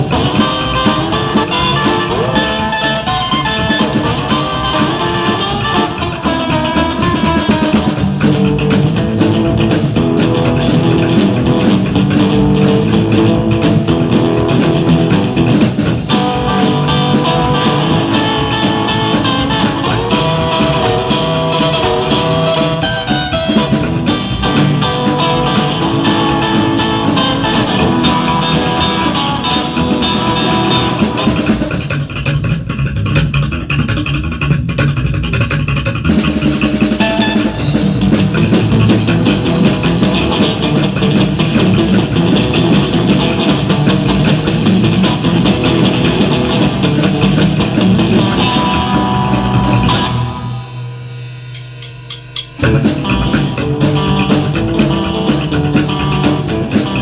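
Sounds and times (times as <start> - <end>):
driving drum kit: 0.0 - 57.0
electric guitar: 0.0 - 57.0
upright bass: 0.0 - 57.0.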